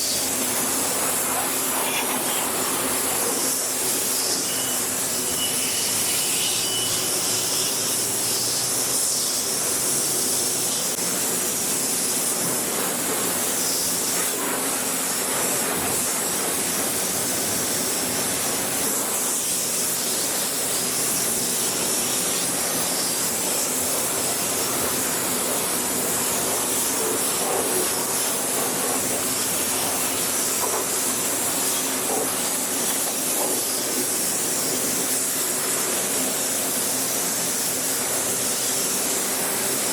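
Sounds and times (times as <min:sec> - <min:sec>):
high-pressure water spraying: 0:00.0 - 0:39.9.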